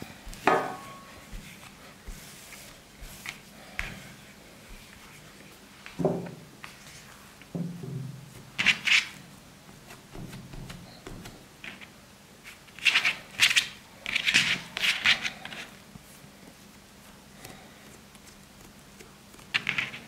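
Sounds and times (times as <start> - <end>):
hands kneading dough: 0.0 - 7.5, 8.2 - 20.0.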